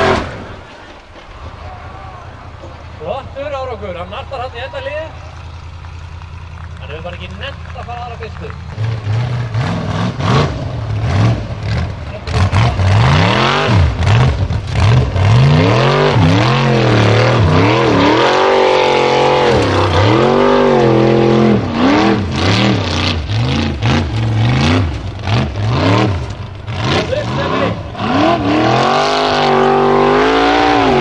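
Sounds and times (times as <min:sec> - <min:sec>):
buggy engine revving hard: 0:00.0 - 0:00.7, 0:02.2 - 0:31.0
tyres spinning on gravel: 0:00.0 - 0:15.6, 0:16.6 - 0:28.0.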